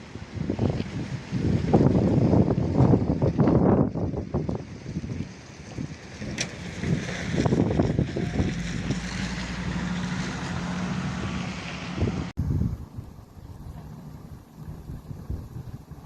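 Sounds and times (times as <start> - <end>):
wind buffeting microphone: 0.0 - 16.0
vehicle engine humming: 1.9 - 16.0.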